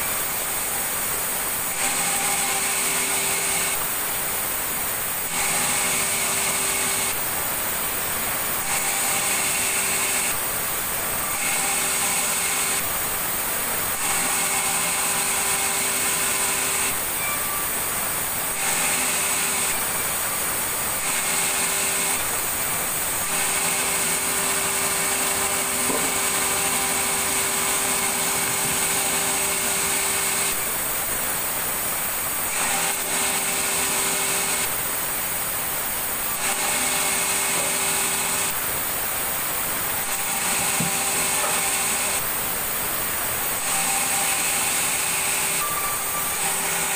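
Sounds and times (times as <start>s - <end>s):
sawmill saw cutting wood: 0.0s - 46.9s.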